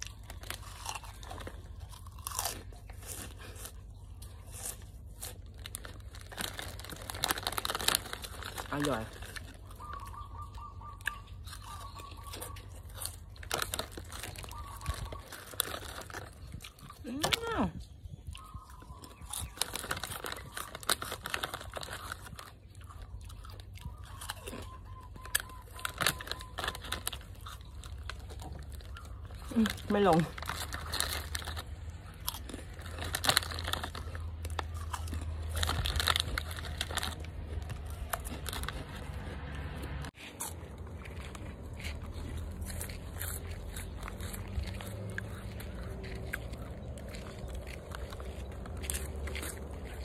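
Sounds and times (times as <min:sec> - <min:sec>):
foil packet crinkling: 0:00.0 - 0:10.5, 0:11.4 - 0:17.6, 0:18.4 - 0:39.2, 0:40.2 - 0:50.0
snack stick crunching: 0:00.0 - 0:50.0.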